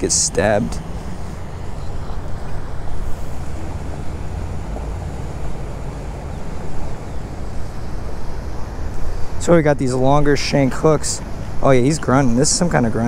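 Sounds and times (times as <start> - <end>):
motorboat engine rumble: 0.0 - 13.0.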